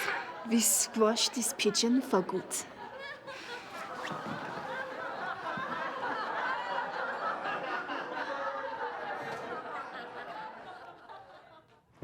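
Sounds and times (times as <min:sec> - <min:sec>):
crowd laughing: 0:00.0 - 0:11.8.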